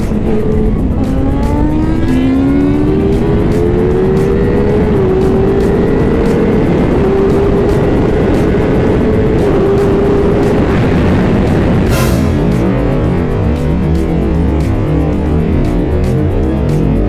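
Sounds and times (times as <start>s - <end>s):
wind rush on microphone: 0.0s - 15.9s
motorcycle engine accelerating: 0.0s - 16.7s.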